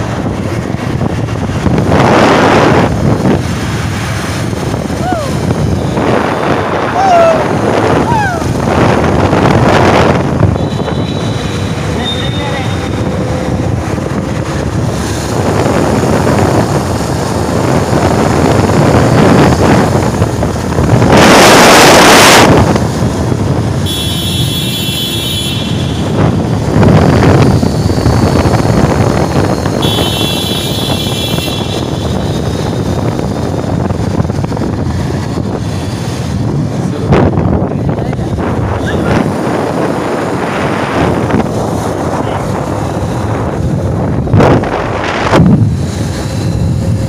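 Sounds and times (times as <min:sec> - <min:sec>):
wind buffeting microphone: 0:00.0 - 0:23.9, 0:25.7 - 0:47.0
motorcycle engine: 0:00.0 - 0:47.0
road noise: 0:00.0 - 0:47.0.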